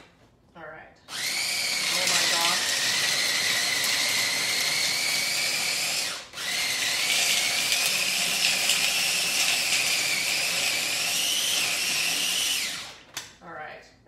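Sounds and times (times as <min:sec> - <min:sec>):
electric blender motor whine: 0:01.1 - 0:13.1.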